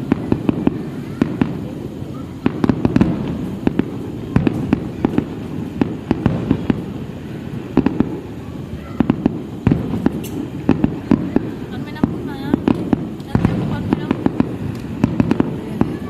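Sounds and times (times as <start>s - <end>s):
firework bangs and crackles: 0.0s - 16.0s
low rumble of bursts: 0.0s - 16.0s.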